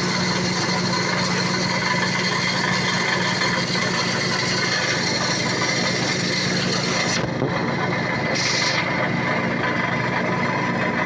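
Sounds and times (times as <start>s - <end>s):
engine hum: 0.0s - 11.0s
machinery rattling: 0.0s - 11.0s.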